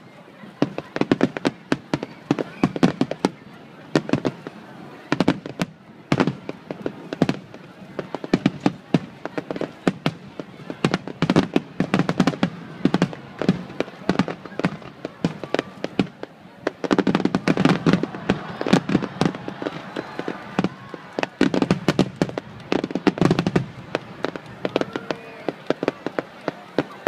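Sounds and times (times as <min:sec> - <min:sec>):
fireworks bangs and crackling: 0:00.4 - 0:27.0.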